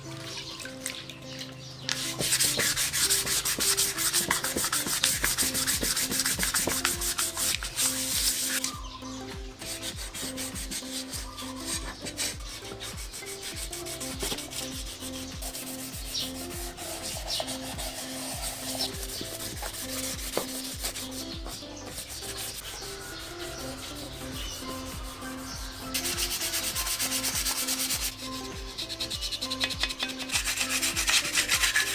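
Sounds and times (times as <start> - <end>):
sandpaper rasping on metal: 1.9 - 8.8, 9.5 - 31.9.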